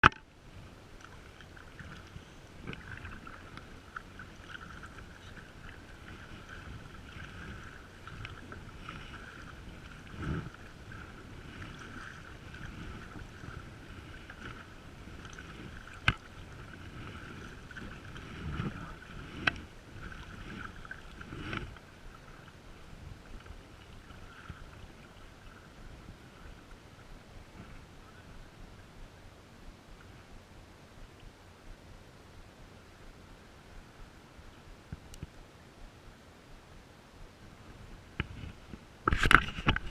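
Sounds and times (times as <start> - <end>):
water splashing around a kayak: 0.0 - 39.9.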